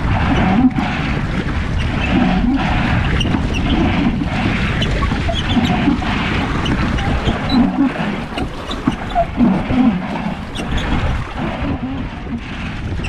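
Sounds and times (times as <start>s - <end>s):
water splashing: 0.0s - 13.0s
wind buffeting microphone: 0.0s - 13.0s.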